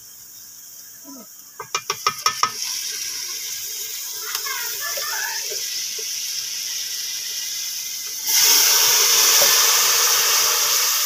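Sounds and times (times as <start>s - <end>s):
hissing steam sizzle: 0.0s - 11.0s
onions sizzling in a pot: 0.0s - 11.0s.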